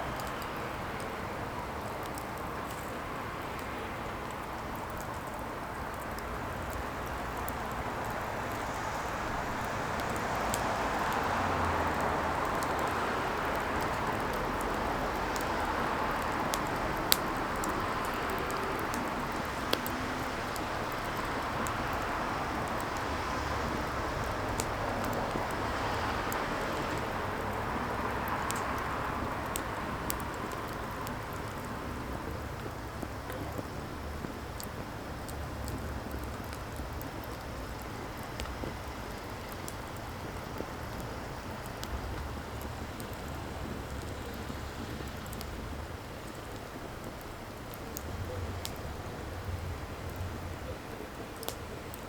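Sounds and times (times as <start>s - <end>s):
faint crackles: 0.0s - 52.0s
firewood burning with hiss: 0.0s - 52.0s.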